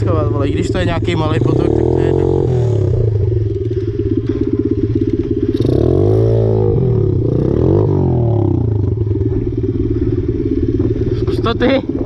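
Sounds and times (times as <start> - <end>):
motorbike engine idling and revving: 0.0 - 12.0.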